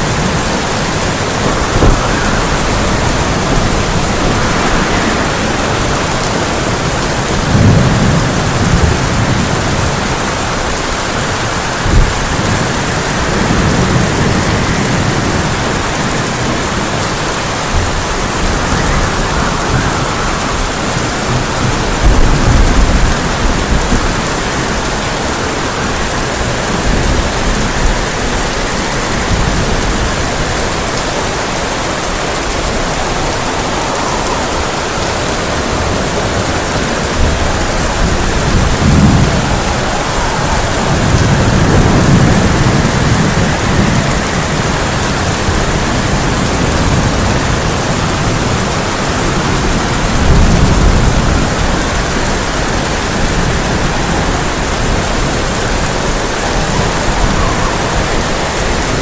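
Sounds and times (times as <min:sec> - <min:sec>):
heavy rain on a tin roof: 0:00.0 - 0:59.0
thunder rumbling: 0:00.0 - 0:59.0.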